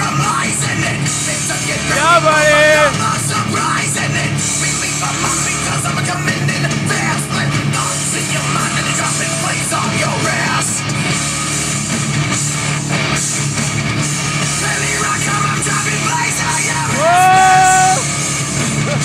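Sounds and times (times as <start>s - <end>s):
heavy rock music with guitar: 0.0s - 19.0s.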